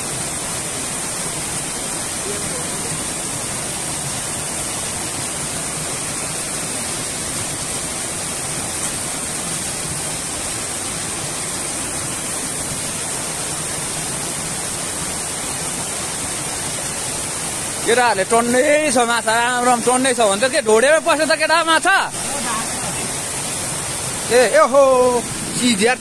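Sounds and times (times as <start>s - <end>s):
small waterfall rushing into pool: 0.0s - 26.0s.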